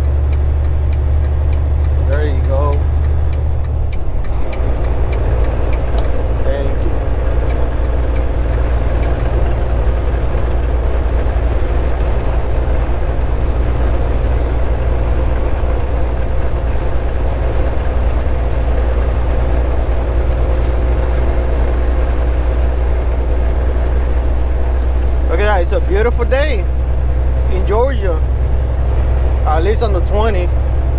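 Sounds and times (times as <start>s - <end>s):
truck engine and road rumble: 0.0s - 30.9s.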